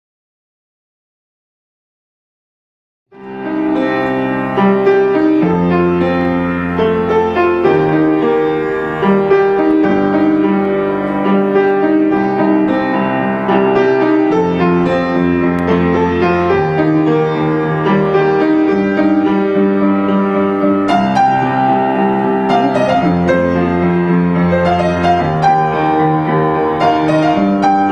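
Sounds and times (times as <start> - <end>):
solo grand piano: 3.1 - 27.9.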